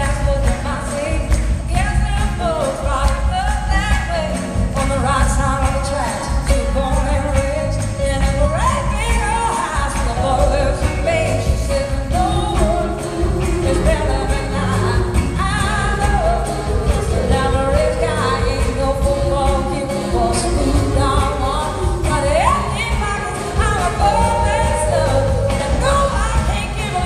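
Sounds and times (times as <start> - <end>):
drums: 0.0 - 27.0
electric guitar: 0.0 - 27.0
woman singing: 0.0 - 27.0.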